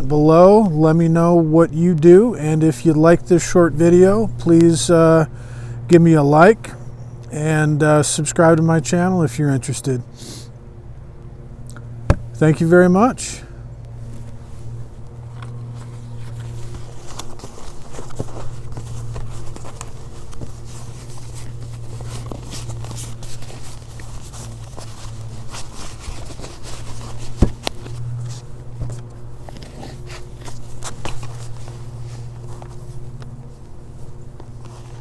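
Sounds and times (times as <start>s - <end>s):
steady low hum: 0.0s - 35.0s
rustles and scrapes of handling: 0.2s - 35.0s.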